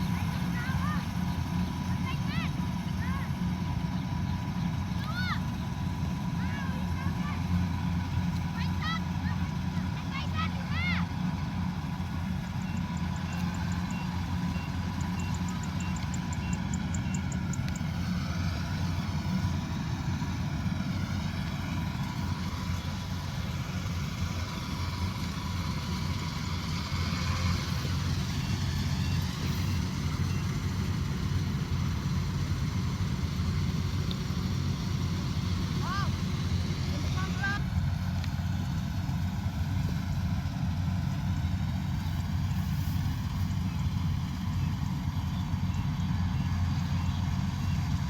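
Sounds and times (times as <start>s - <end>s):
combine harvester engine running: 0.0s - 48.0s
machinery noise: 0.0s - 48.0s.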